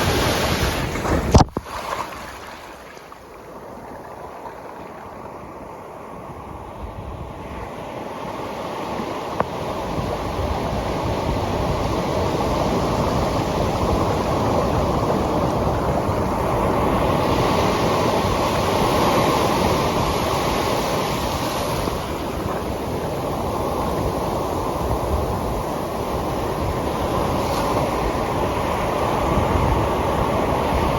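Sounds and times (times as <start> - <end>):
ocean surf washing: 0.0 - 30.9
wind rumbling on microphone: 0.0 - 30.9.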